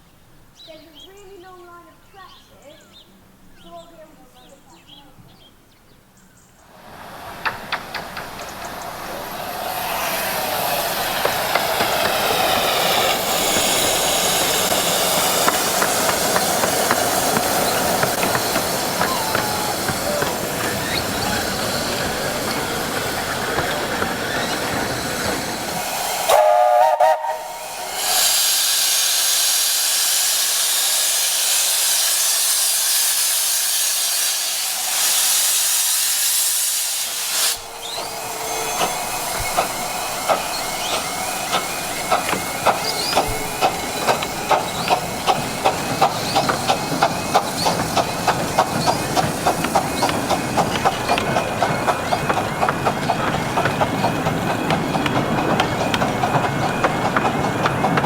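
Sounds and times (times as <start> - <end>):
loud hiss of steam: 6.6 - 58.0
steam train chuffing: 6.6 - 58.0
steam locomotive whistle: 8.2 - 58.0.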